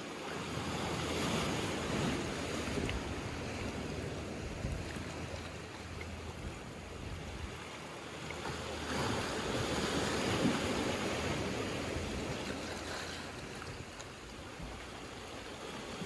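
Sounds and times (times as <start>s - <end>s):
waves washing over rocks and pebbles: 0.0s - 16.0s.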